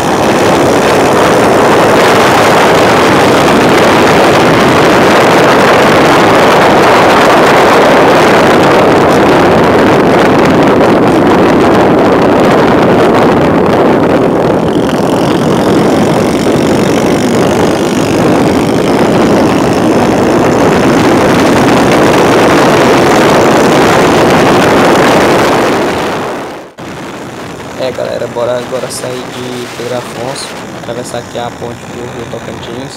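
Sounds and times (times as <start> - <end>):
motorcycle engine running: 0.0 - 32.9
wind rush on microphone: 0.0 - 32.9.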